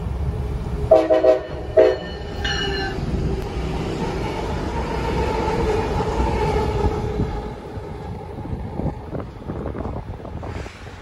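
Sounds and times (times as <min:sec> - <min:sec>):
locomotive engines rumbling: 0:00.0 - 0:11.0.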